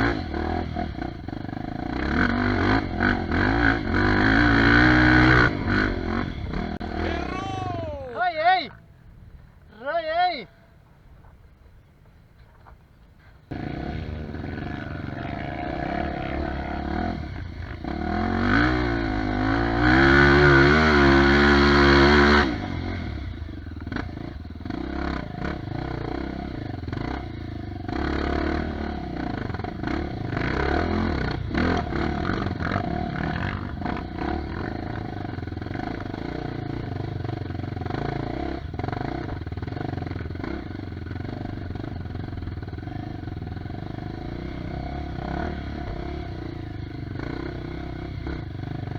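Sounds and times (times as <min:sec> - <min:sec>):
dirt bike engine revving: 0:00.0 - 0:08.4, 0:13.5 - 0:48.9.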